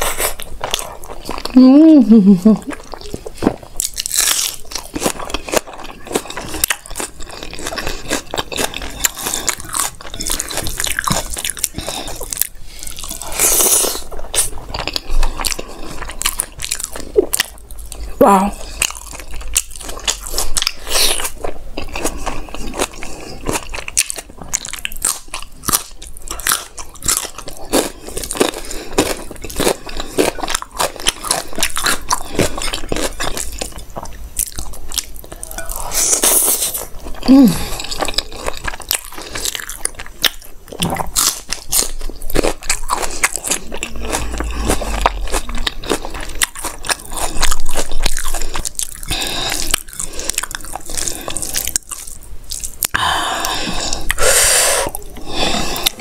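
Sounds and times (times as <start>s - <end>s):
chewing with wet mouth smacks: 2.7s - 54.2s.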